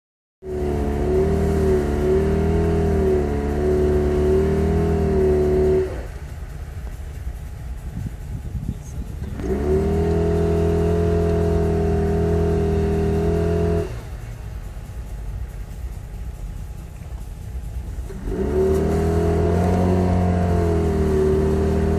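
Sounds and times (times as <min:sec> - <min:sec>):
car engine revving high: 0:00.4 - 0:14.7, 0:16.6 - 0:21.9
tires spinning in snow: 0:00.4 - 0:21.9.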